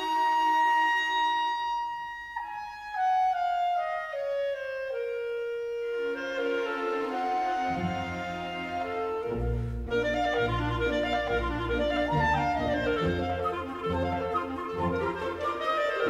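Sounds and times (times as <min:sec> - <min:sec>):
solo clarinet: 0:00.0 - 0:16.0.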